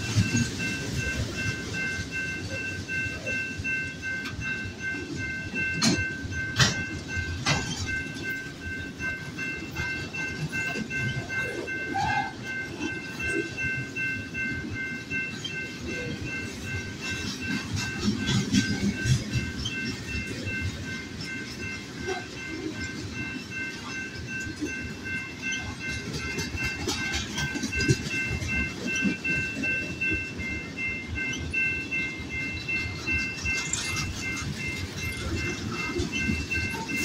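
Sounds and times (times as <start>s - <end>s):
crossing warning bell ringing: 0.0s - 37.0s
train wheels rumbling and clacking: 0.0s - 37.0s.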